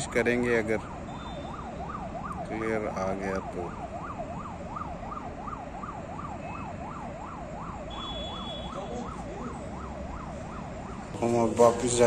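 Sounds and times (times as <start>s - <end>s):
emergency siren yelping: 0.0s - 12.0s
road traffic rumble: 0.0s - 12.0s.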